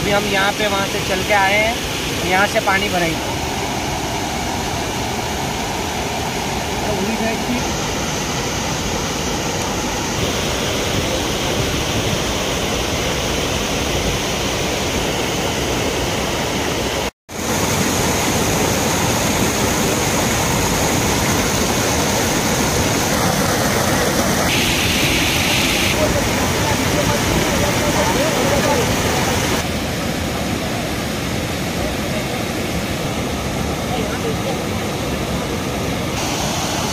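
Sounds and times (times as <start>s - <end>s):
flowing water rushing: 0.0s - 36.9s.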